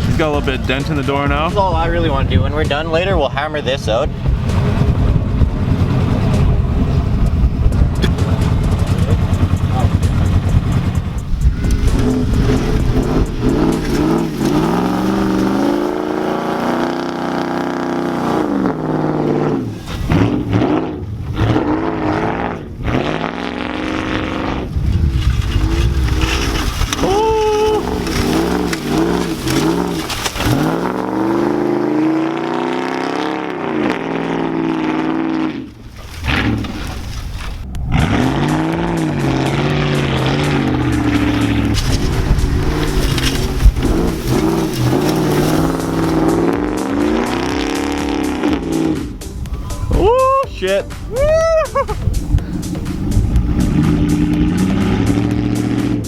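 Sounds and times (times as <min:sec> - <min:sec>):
pickup truck engine revving: 0:00.0 - 0:56.0.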